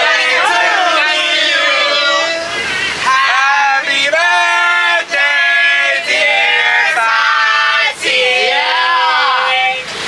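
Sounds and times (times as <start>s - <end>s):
voices singing long notes: 0.0s - 10.0s.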